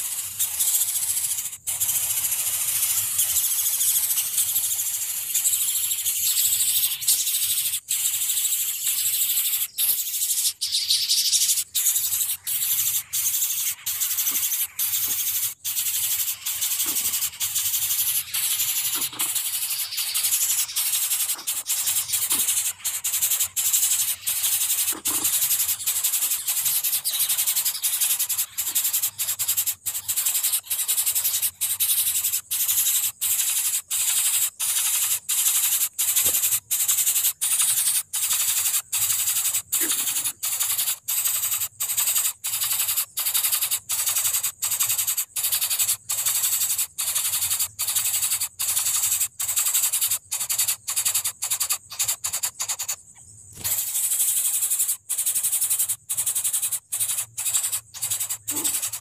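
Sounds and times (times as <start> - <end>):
shrill insect chorus: 0.0 - 59.0.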